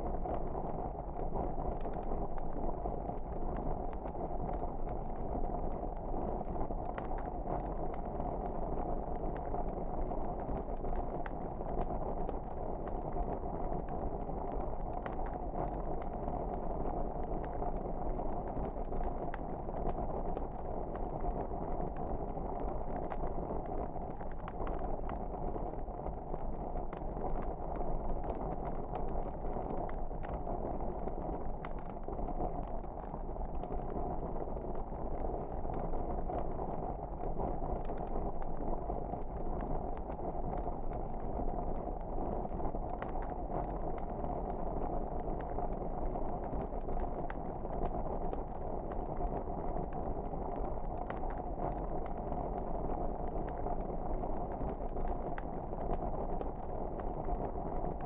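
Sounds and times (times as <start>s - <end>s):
fire crackling and popping: 0.0s - 58.0s
wood fire burning: 0.0s - 58.0s.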